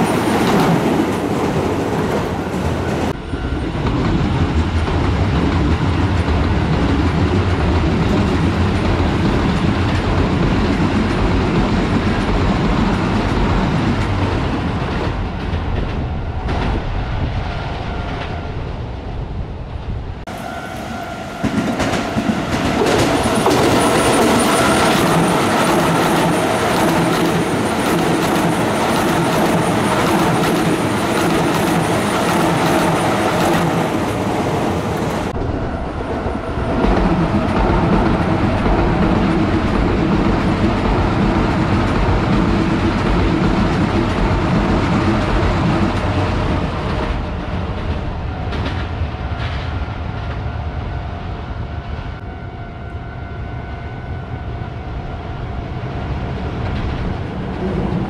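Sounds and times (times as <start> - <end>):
train wheels on rails: 0.0 - 18.7, 20.2 - 52.2, 54.1 - 58.0.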